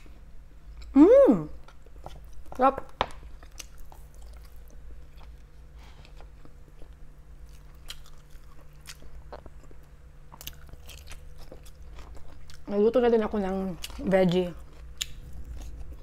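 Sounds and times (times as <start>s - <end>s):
faint steady hum: 0.0s - 16.0s
chewing and mouth sounds: 1.6s - 16.0s.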